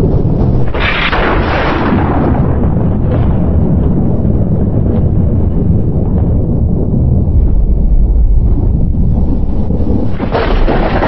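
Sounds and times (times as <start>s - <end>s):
thunder crack and rumble: 0.0s - 11.0s.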